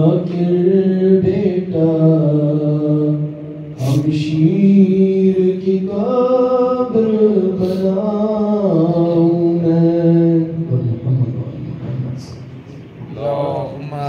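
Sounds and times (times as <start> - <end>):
man chanting a lament: 0.0 - 12.3.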